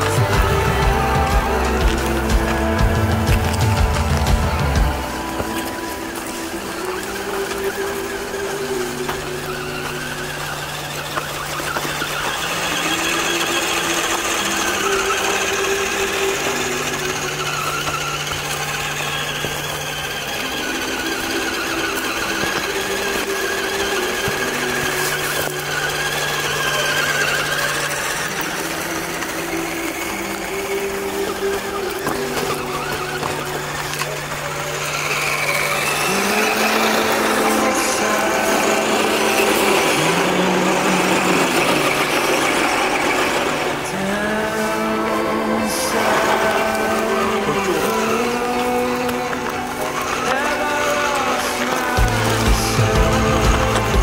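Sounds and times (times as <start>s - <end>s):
bass and pad chords: 0.0s - 54.0s
high wavering tone: 0.0s - 54.0s.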